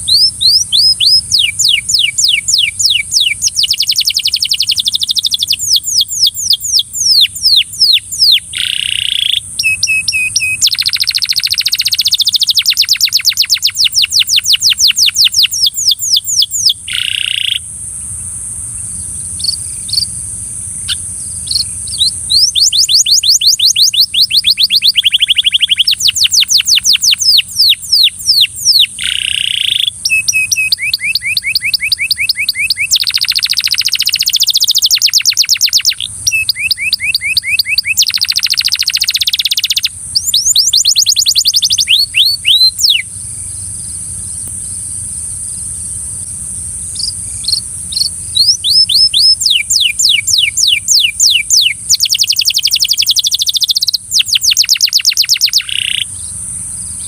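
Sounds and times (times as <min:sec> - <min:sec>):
canary singing trills: 0:00.0 - 0:17.7, 0:18.8 - 0:44.9, 0:46.8 - 0:57.0.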